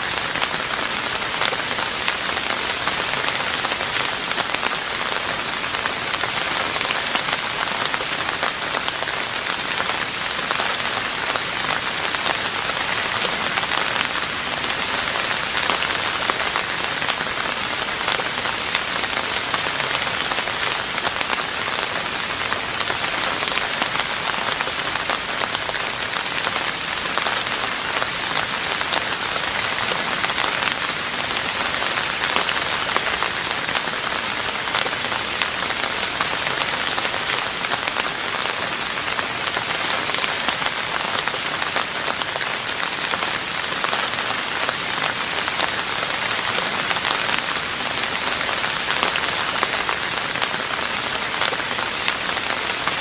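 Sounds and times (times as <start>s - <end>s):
rain on a roof: 0.0s - 53.0s.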